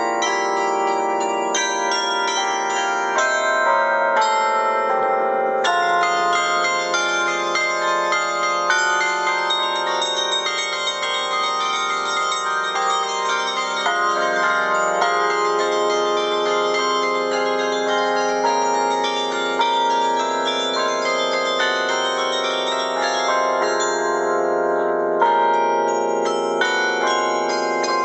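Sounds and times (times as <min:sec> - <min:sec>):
carillon bells playing melody: 0:00.0 - 0:28.0.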